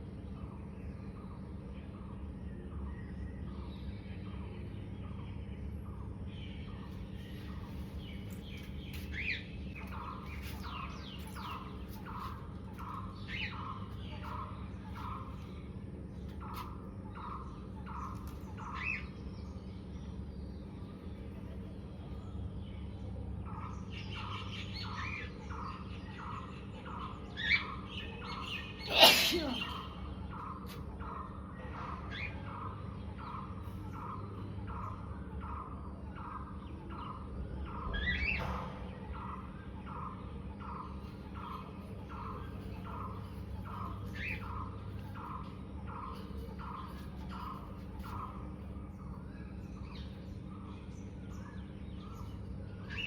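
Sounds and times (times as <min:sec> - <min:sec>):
bird-like chirp: 0:00.0 - 0:53.0.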